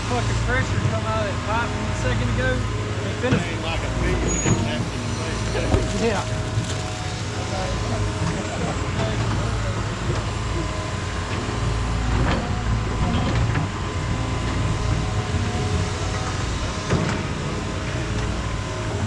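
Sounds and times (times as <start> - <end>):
heavy equipment engine humming: 0.0 - 19.0.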